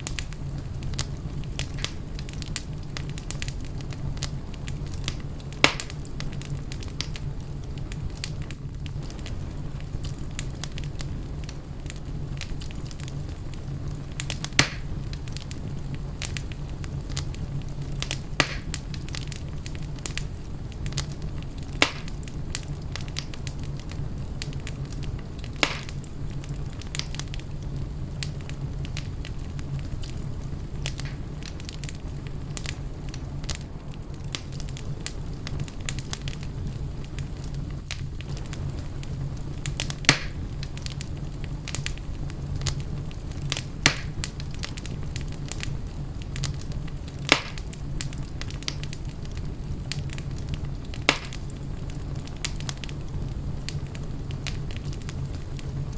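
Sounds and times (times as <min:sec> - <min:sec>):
loud sharp fire pops: 0:00.0 - 0:09.4, 0:13.9 - 0:33.7, 0:37.1 - 0:55.8
fire crackling in a fireplace: 0:00.0 - 0:55.9.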